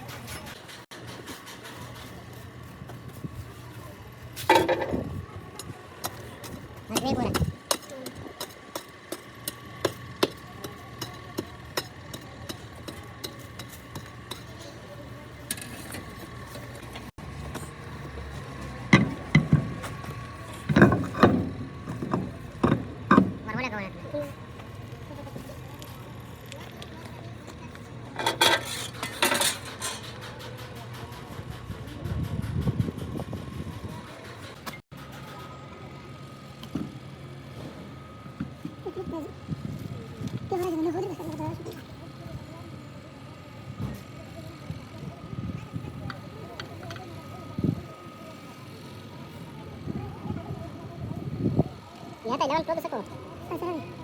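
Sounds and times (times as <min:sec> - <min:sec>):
engine hum: 0:00.0 - 0:54.0.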